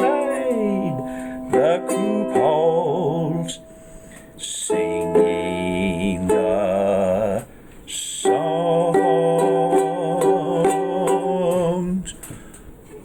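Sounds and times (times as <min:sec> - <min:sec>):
strummed ukulele: 0:00.0 - 0:07.5, 0:08.1 - 0:12.0.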